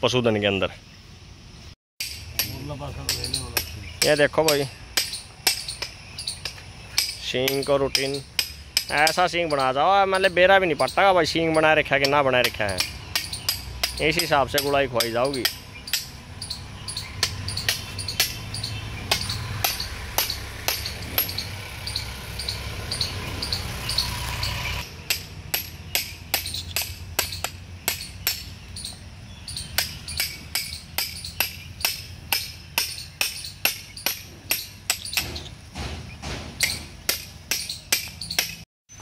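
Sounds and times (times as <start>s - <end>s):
hammer tapping on metal: 2.0s - 10.3s, 11.5s - 22.6s, 25.0s - 38.6s.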